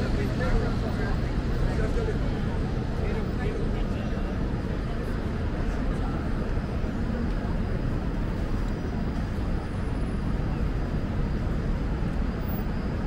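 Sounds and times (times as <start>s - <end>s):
city ambience rumble: 0.0s - 13.0s.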